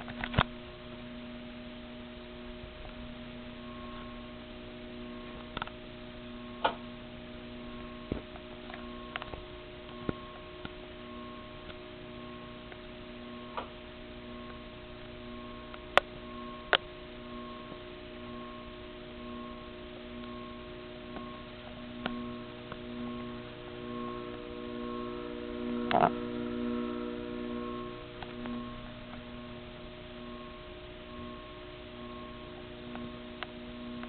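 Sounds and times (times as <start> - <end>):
ceiling fan motor hum: 0.0 - 34.0
faint pulsing tone: 0.0 - 34.0.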